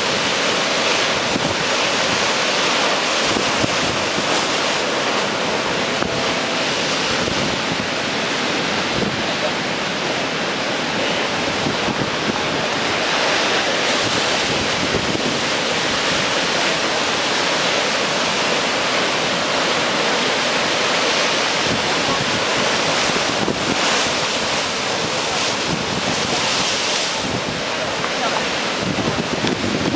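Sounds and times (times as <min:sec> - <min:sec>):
wind buffeting the microphone: 0:00.0 - 0:09.7, 0:10.3 - 0:29.9
waves hitting a seawall: 0:00.0 - 0:29.9.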